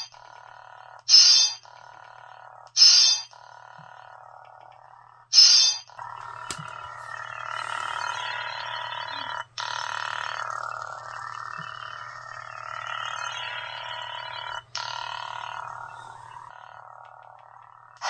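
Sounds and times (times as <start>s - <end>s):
toy lightsaber electronic hum: 0.0s - 18.0s.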